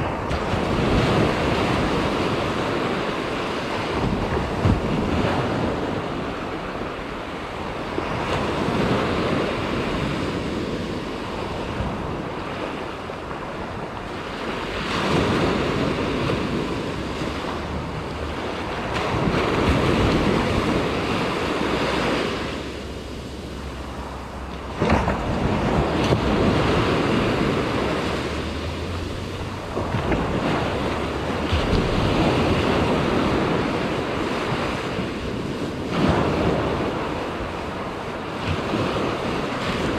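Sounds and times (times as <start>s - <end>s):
surf breaking on beach: 0.0s - 39.9s
wind buffeting microphone: 0.0s - 39.9s.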